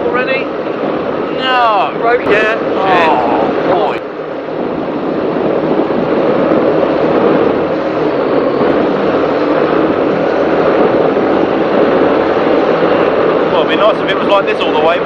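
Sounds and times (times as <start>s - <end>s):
powerboat engines running: 0.0s - 15.0s
wind and water rushing: 0.0s - 15.0s.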